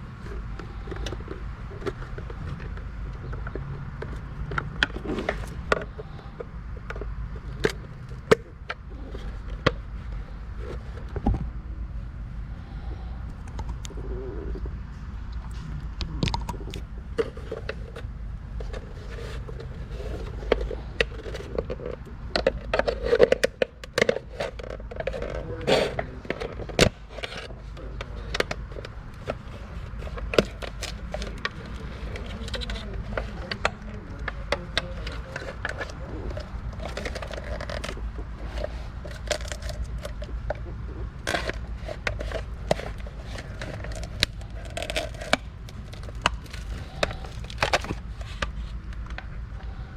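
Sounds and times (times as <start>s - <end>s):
plastic parts clicking and scraping: 0.0s - 11.6s, 12.7s - 14.7s, 15.4s - 49.9s
low steady rumble: 0.0s - 49.9s.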